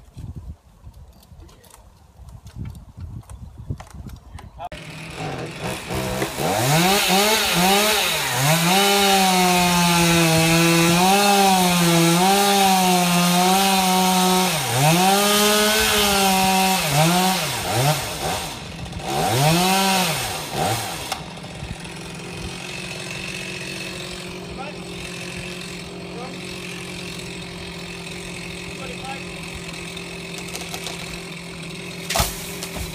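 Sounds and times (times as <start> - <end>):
chainsaw cutting wood: 4.8 - 32.9
chainsaw idling: 4.8 - 32.9
chainsaw revving: 4.8 - 32.9.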